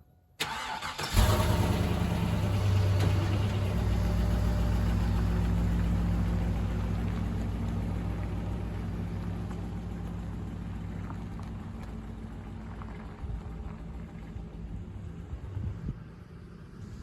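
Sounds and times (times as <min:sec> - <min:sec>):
engine running: 0:00.4 - 0:17.0.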